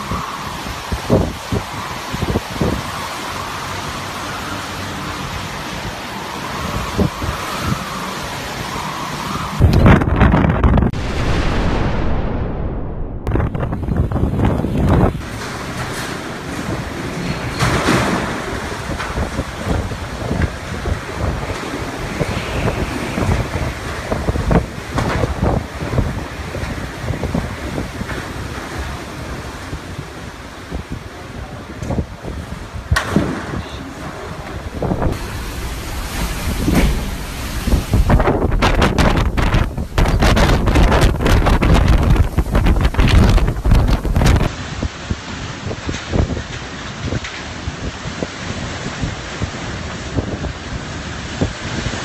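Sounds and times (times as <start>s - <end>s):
strong wind buffeting microphone: 0.0s - 52.0s
wind gusts thumping microphone: 0.0s - 52.0s.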